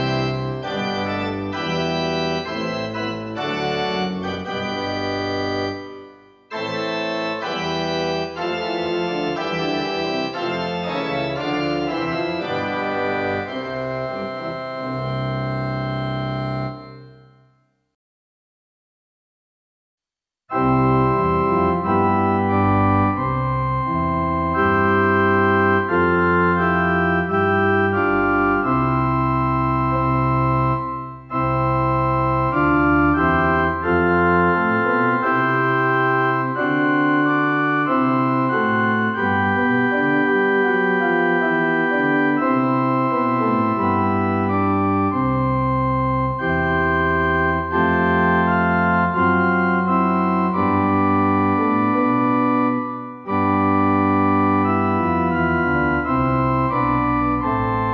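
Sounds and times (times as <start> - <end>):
pipe organ chords: 0.0 - 17.5, 20.5 - 57.9.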